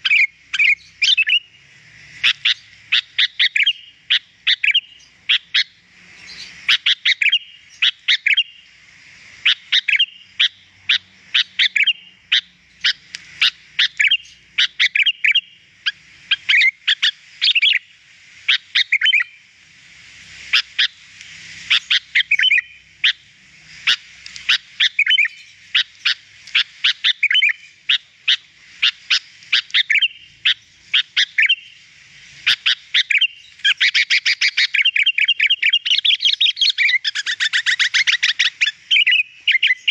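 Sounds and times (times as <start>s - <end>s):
bird singing sharp chirps: 0.0s - 8.7s, 9.4s - 17.9s, 18.5s - 19.4s, 21.6s - 39.9s.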